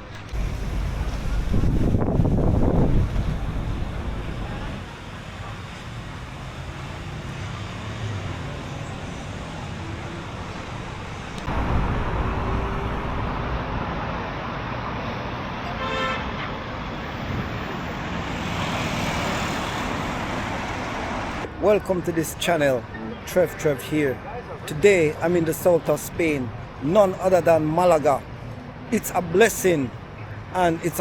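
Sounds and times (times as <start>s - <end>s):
passing cars: 0.0s - 31.0s.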